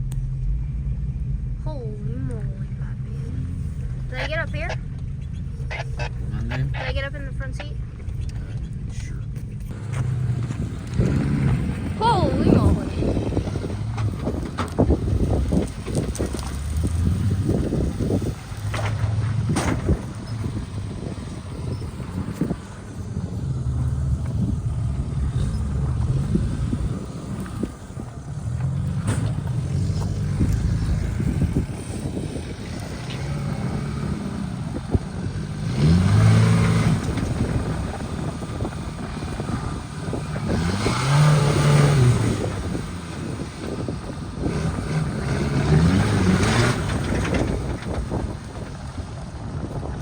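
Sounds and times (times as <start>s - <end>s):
off-road vehicle engine revving: 0.0s - 50.0s.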